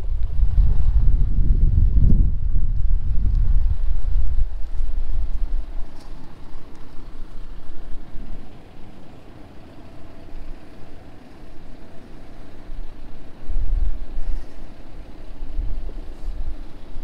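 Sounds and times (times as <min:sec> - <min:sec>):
wind rumbling on microphone: 0:00.0 - 0:09.1, 0:11.4 - 0:17.0.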